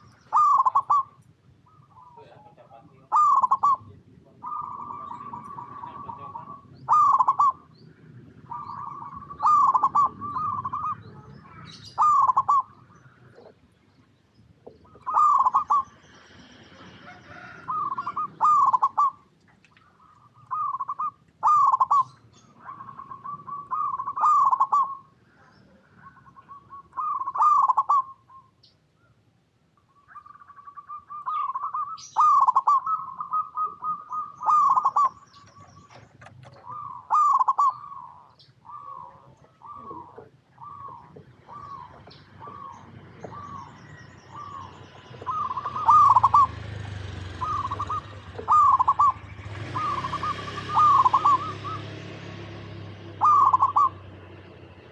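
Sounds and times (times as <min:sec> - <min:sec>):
dove cooing: 0:00.0 - 0:13.7, 0:14.5 - 0:28.6, 0:30.0 - 0:54.9.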